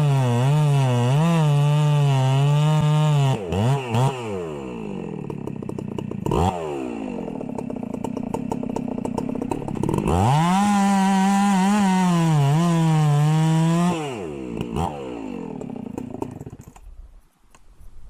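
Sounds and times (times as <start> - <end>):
chainsaw revving and idling: 0.0 - 16.9.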